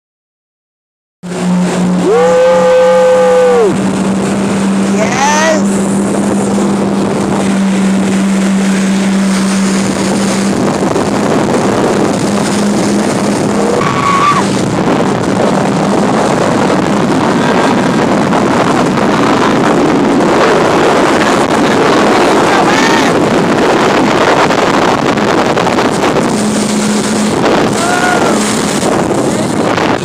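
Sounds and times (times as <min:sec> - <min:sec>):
jet ski engine hum: 0:01.2 - 0:30.0
rush of wind and water: 0:01.2 - 0:30.0.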